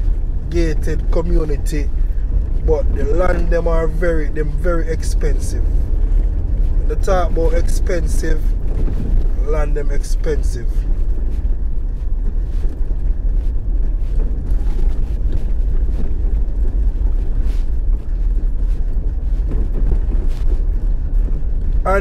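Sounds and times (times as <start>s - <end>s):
vehicle driving on road: 0.0s - 22.0s
wind noise on microphone: 0.0s - 22.0s.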